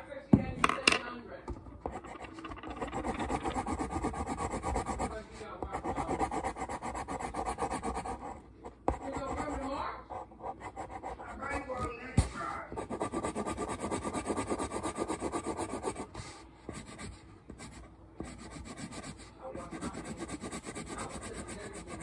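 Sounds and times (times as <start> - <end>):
marker scratching on foam board: 1.8 - 22.0.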